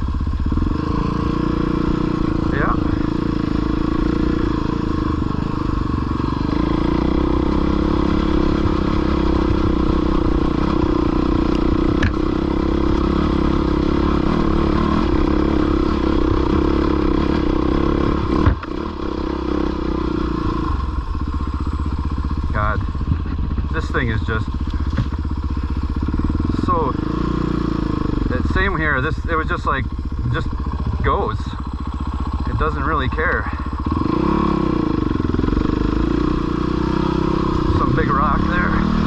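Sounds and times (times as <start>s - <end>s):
dirt bike engine running: 0.0s - 39.0s.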